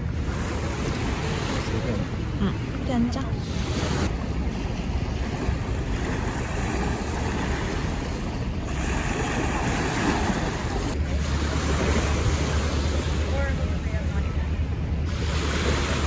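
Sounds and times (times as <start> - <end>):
sea waves lapping on shore: 0.0 - 16.0.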